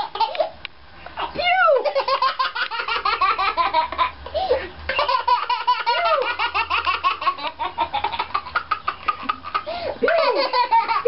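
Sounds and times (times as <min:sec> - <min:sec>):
toddler laughing: 0:00.0 - 0:00.6, 0:01.2 - 0:11.0.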